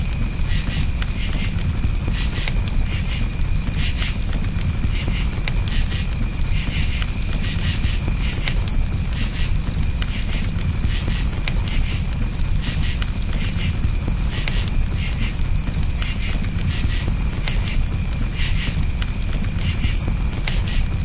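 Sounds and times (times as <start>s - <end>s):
campfire crackling: 0.0s - 21.0s
crickets chirping: 0.0s - 21.0s
fire popping: 0.0s - 21.0s
low rumble of burning: 0.0s - 21.0s.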